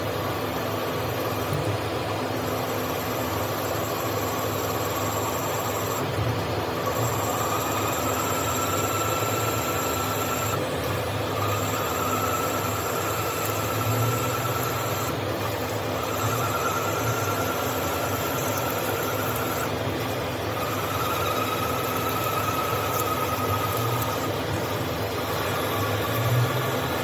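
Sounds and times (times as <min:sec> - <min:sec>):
machine drilling noise: 0:02.4 - 0:27.0.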